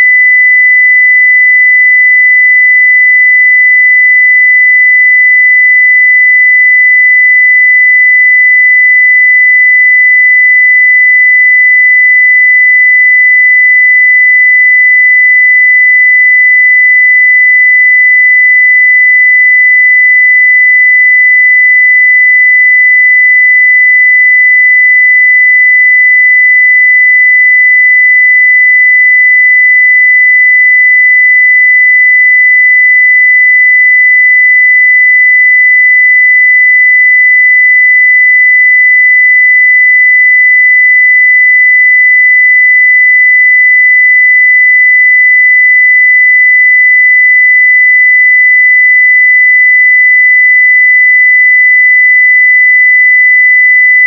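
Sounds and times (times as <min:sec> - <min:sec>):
high-pitched sine test tone: 0:00.0 - 0:54.0.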